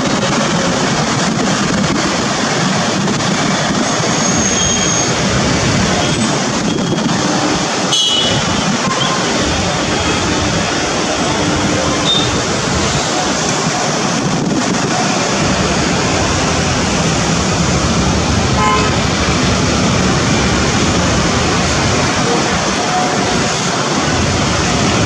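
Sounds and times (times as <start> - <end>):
airliner engine and propeller noise: 0.0 - 25.0.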